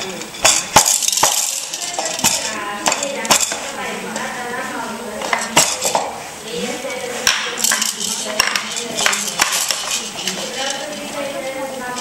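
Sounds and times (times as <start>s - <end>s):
cutlery and dishes clattering: 0.0s - 3.7s, 5.2s - 6.1s, 6.8s - 12.0s.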